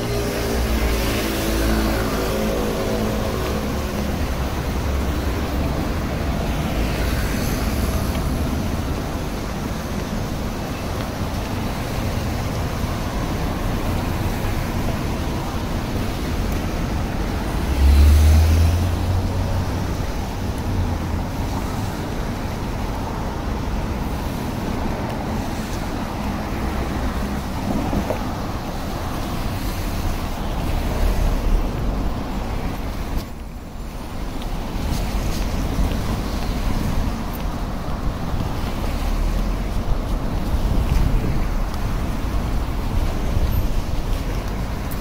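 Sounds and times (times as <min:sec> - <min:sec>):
city street traffic: 0:00.0 - 0:45.0.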